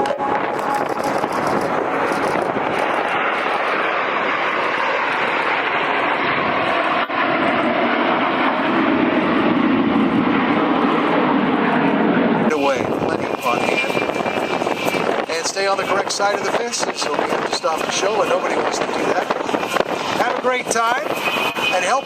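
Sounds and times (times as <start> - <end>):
jet engines flying overhead: 0.0 - 22.0.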